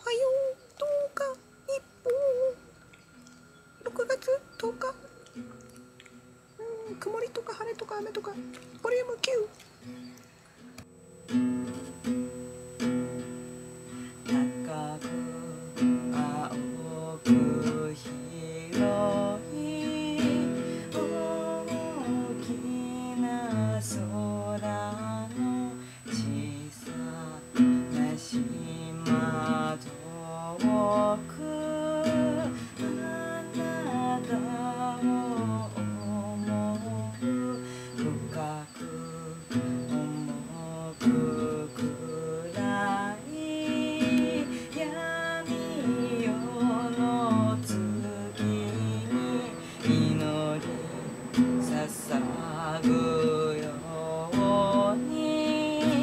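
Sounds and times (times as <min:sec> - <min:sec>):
acoustic guitar plucking: 0:00.0 - 0:56.0.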